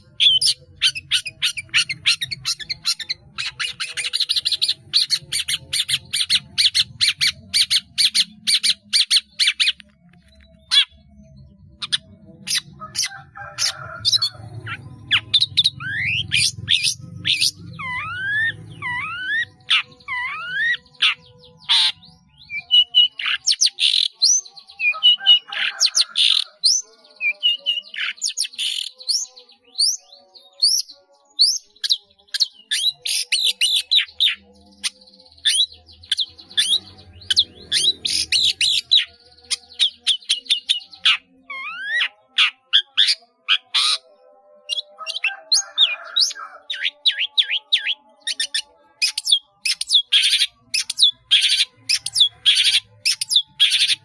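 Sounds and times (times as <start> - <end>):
shrike singing chirps and whistles: 0.0 - 11.0, 11.8 - 54.0.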